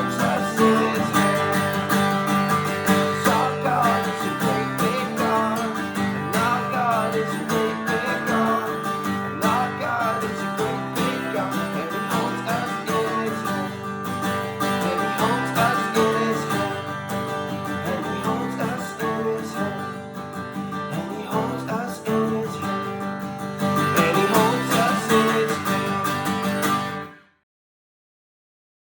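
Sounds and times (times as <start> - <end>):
music: 0.0 - 27.4.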